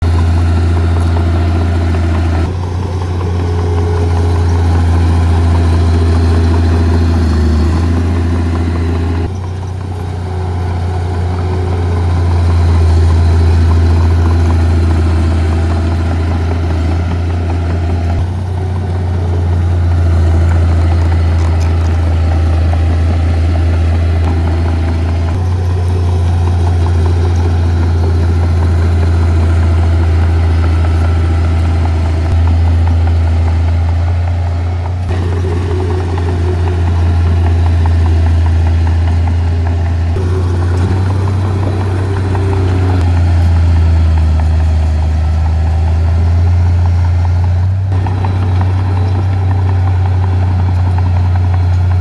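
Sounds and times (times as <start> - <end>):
heavy diesel engines running: 0.0 - 52.0.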